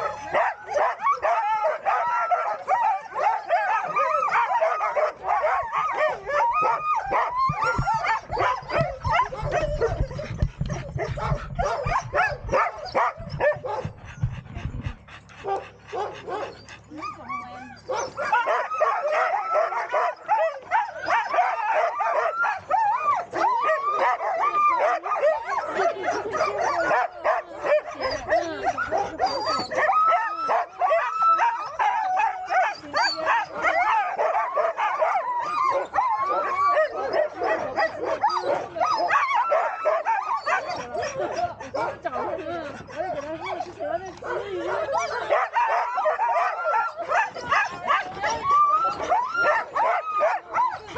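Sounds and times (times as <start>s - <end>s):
sled dogs barking and yelping: 0.0s - 50.9s.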